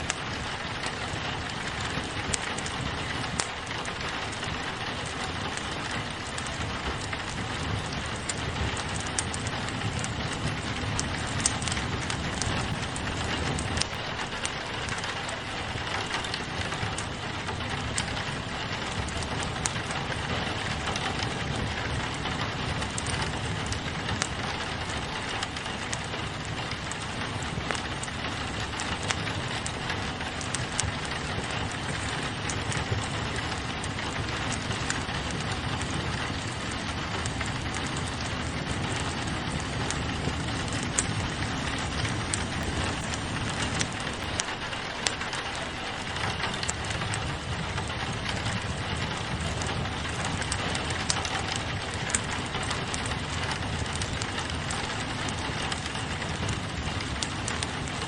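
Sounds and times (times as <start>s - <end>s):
rain against a window: 0.0s - 58.0s
wood fire crackling: 0.0s - 58.0s.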